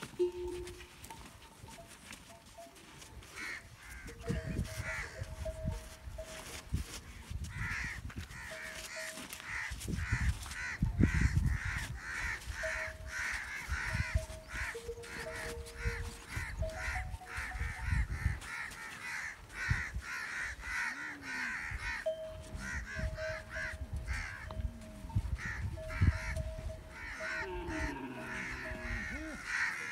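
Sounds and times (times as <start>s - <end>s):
crows cawing: 3.3s - 5.5s, 7.2s - 24.6s, 25.4s - 29.9s.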